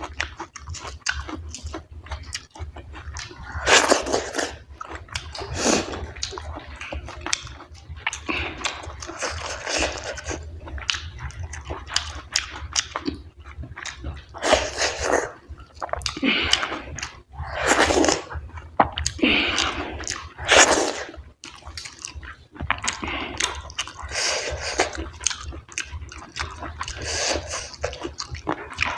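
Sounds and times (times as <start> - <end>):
person chewing with wet smacking: 0.0 - 28.9.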